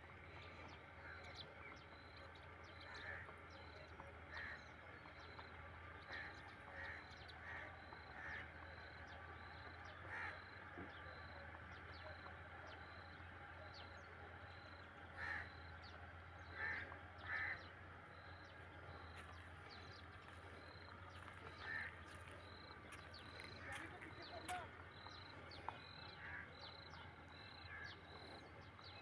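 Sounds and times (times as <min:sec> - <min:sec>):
harsh bird calls: 0:00.2 - 0:29.0.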